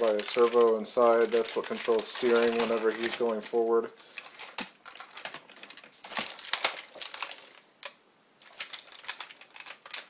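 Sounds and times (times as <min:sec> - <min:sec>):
plastic toy clicking and rustling: 0:00.0 - 0:03.4, 0:04.2 - 0:10.0.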